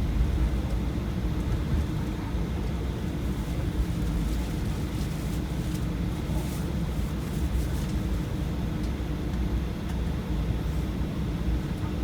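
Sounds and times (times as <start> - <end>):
airplane engines rumbling in cabin: 0.0 - 12.0.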